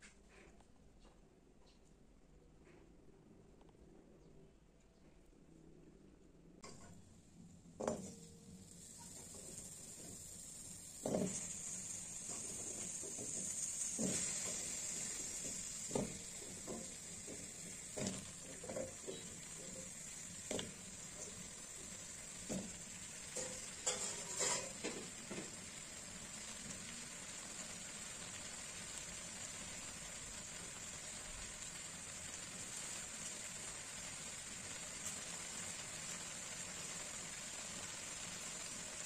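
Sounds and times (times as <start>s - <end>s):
steady high hiss: 6.6s - 39.0s.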